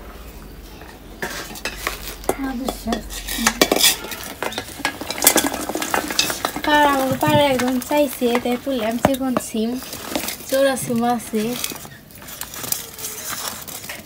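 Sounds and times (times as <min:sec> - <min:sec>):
bean pods clattering into metal bowl: 0:00.8 - 0:14.0.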